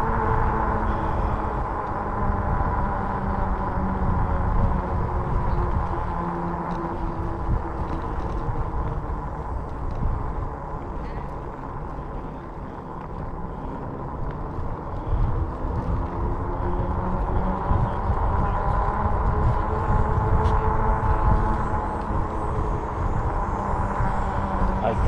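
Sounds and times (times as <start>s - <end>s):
electric bike tyre and motor hum: 0.0s - 25.0s
wind rushing over microphone: 0.0s - 25.0s.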